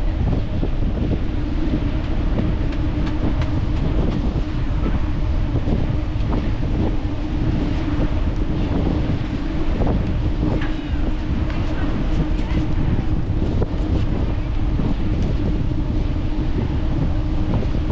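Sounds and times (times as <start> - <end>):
bicycle rolling noise: 0.0 - 17.9
faint steady hum: 0.0 - 17.9
wind buffeting microphone: 0.0 - 17.9.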